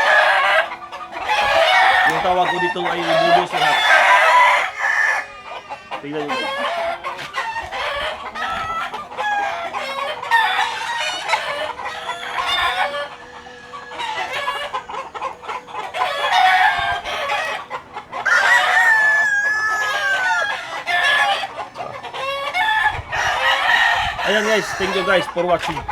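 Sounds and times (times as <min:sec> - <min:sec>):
chickens clucking: 0:00.0 - 0:25.9
roosters crowing: 0:00.0 - 0:25.9.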